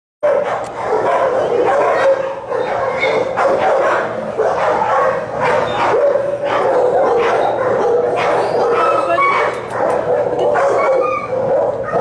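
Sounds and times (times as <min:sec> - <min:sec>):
dogs barking and yipping: 0:00.2 - 0:12.0.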